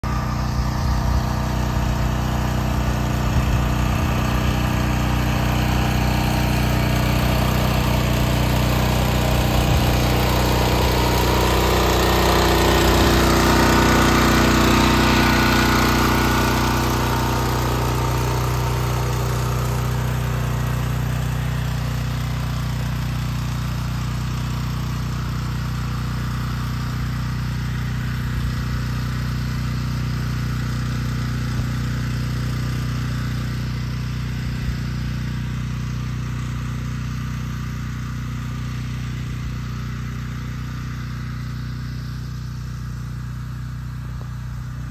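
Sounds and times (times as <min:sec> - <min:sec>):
brush mower engine running: 0:00.0 - 0:44.9.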